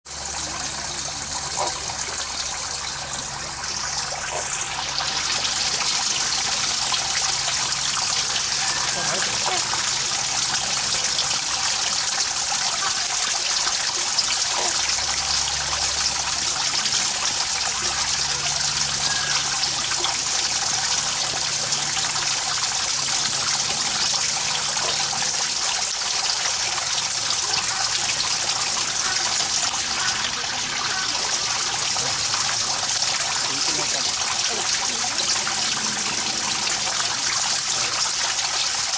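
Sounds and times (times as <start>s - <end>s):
water trickling and splashing: 0.1s - 38.9s.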